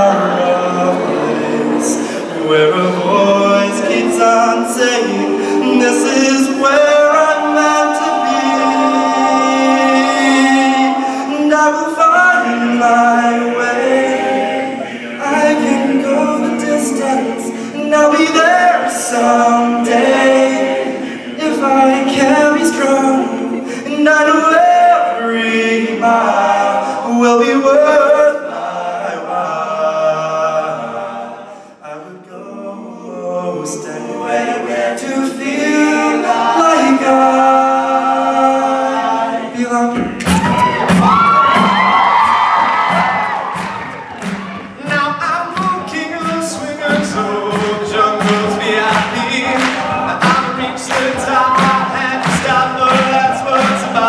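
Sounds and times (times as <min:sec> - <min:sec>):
male choir singing in harmony: 0:00.0 - 0:41.9, 0:42.6 - 0:54.0.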